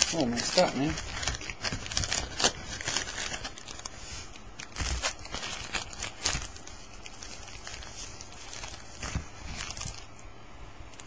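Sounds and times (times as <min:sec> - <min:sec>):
foil packs crinkling: 0:00.0 - 0:10.3.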